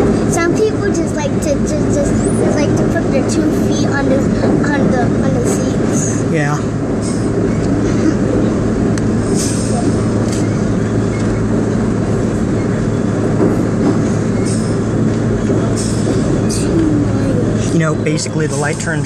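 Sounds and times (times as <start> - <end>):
wheels squeaking on rails: 0.0 - 6.3, 7.0 - 19.0
constant low hum: 0.0 - 19.0
subway train wheels rumbling: 0.0 - 19.0.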